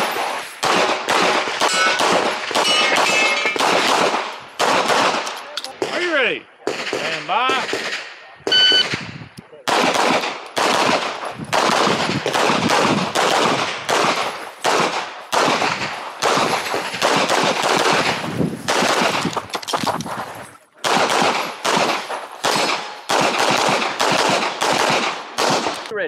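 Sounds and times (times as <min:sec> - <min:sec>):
pistol shots: 0:00.0 - 0:06.0, 0:06.6 - 0:19.4, 0:20.8 - 0:25.9.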